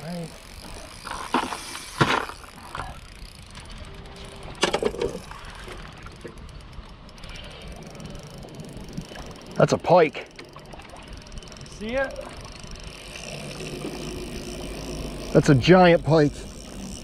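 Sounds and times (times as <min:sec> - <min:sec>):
fishing reel clicking and ratcheting: 0:00.0 - 0:17.0.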